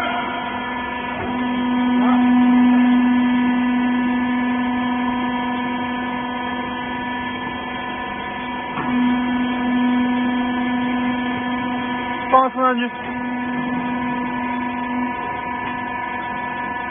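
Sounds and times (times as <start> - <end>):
hydraulic pump motor humming: 0.0 - 16.9.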